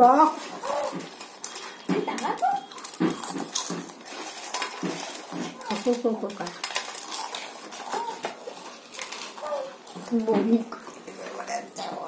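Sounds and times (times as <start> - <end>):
chips crunching: 0.0 - 12.0.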